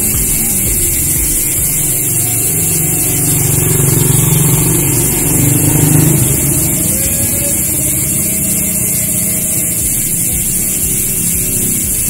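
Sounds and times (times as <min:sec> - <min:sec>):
bicycle freehub ratcheting buzz: 0:00.0 - 0:12.0.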